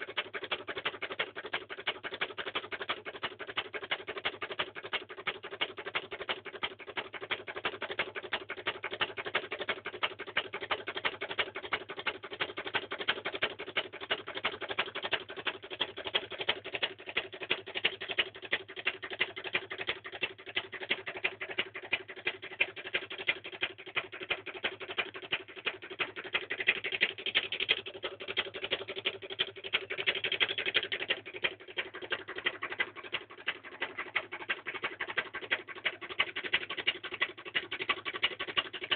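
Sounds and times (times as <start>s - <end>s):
reed switch clicking rapidly: 0.0s - 38.9s.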